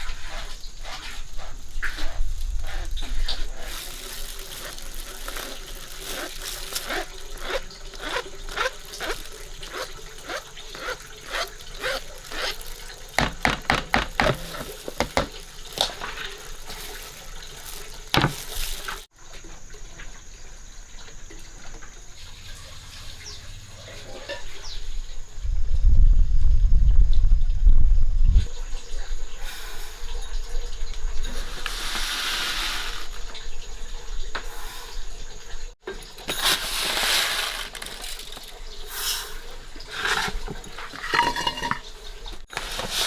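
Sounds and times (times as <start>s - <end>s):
water splashing and sloshing: 0.0s - 24.9s, 28.3s - 43.0s.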